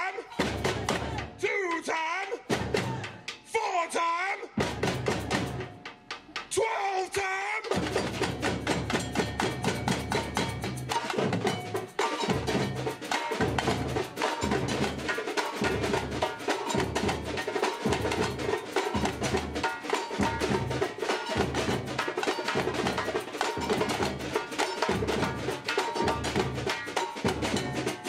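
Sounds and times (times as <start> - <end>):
deep drum beats: 0.0 - 3.6, 4.6 - 6.8, 7.6 - 28.0
fast rattle of drums and percussion: 0.0 - 3.6, 4.6 - 28.0.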